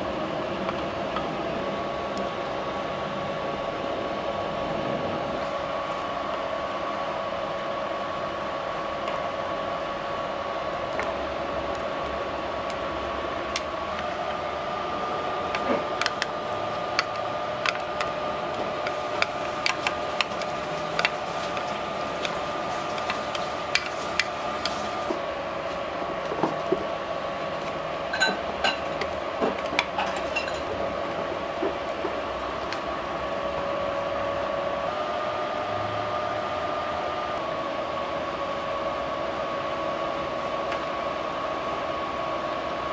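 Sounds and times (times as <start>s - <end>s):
steady hum: 0.0s - 42.9s.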